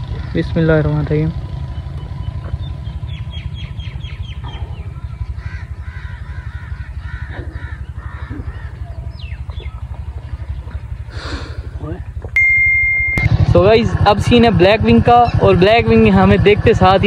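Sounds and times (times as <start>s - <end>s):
birds calling: 0.0s - 17.0s
steady low throb: 0.0s - 17.0s.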